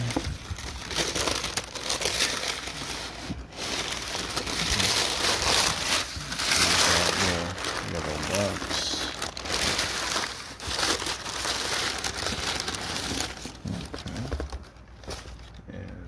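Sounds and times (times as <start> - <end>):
tissue paper crinkling: 0.0 - 15.6.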